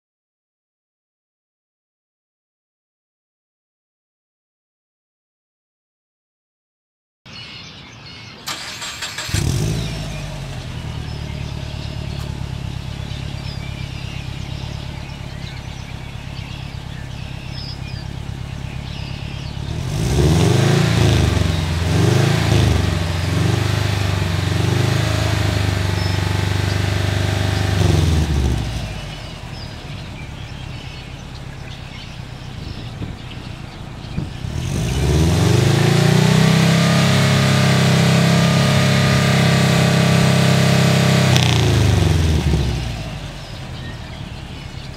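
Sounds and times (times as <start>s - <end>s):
car engine idling and revving: 8.5s - 44.9s.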